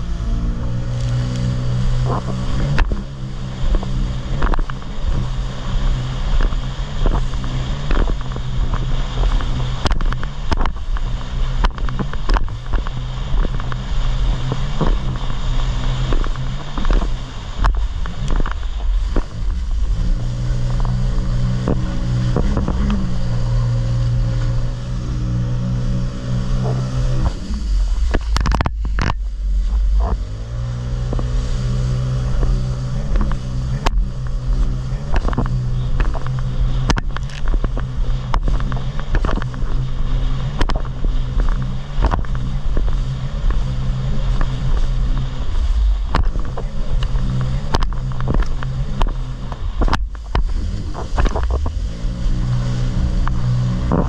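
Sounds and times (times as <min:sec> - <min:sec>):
hull slapping on water: 0:00.0 - 0:54.0
jet ski engine drone: 0:00.0 - 0:54.0
wind rumble on microphone: 0:00.0 - 0:54.0.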